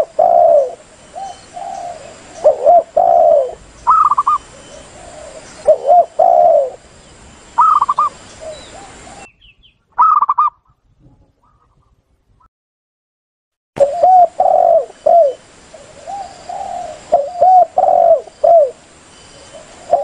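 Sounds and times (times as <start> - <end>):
quavering dove coos: 0.0 - 6.8, 7.6 - 9.3, 10.0 - 12.0, 13.8 - 20.0
doves cooing in two-part phrases: 0.0 - 6.9, 7.6 - 9.3, 10.0 - 11.8, 13.8 - 20.0
background hiss: 0.0 - 10.3, 13.8 - 20.0.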